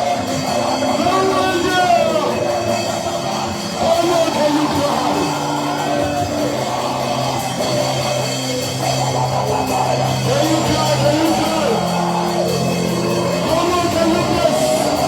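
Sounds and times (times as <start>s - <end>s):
drums: 0.0s - 15.0s
electric guitar: 0.0s - 15.0s
people singing: 0.0s - 15.0s
sustained keyboard chords: 0.0s - 15.0s.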